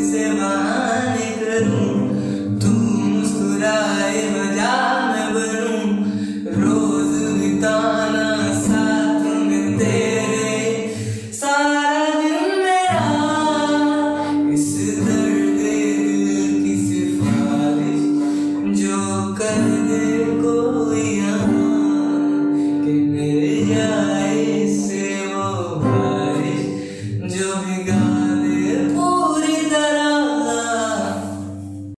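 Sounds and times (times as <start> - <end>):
person singing slow melody: 0.0 - 31.9.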